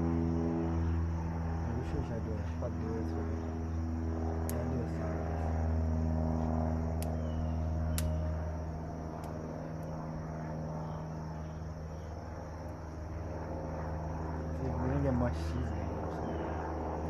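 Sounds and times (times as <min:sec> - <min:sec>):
low mechanical motor drone: 0:00.0 - 0:17.0.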